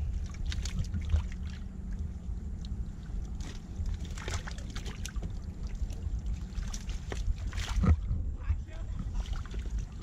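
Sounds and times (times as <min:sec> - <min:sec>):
low rumble: 0:00.0 - 0:10.0
water sloshing around boat: 0:00.0 - 0:10.0.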